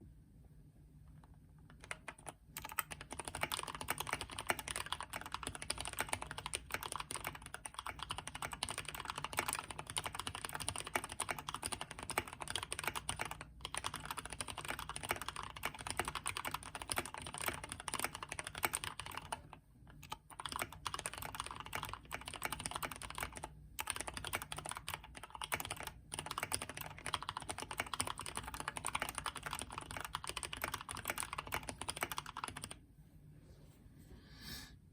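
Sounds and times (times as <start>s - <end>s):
mechanical keyboard typing: 1.7s - 32.8s.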